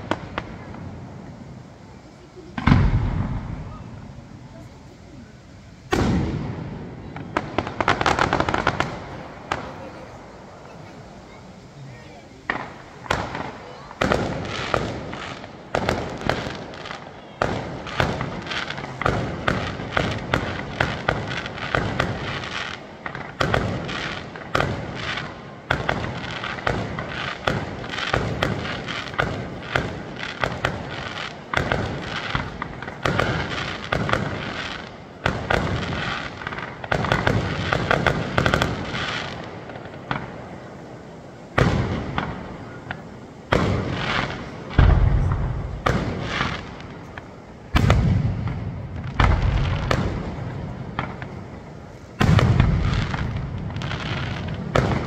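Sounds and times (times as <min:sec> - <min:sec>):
deep firework booms: 0:00.0 - 0:05.0, 0:05.8 - 0:10.7, 0:12.4 - 0:55.0
fireworks bangs: 0:00.0 - 0:55.0.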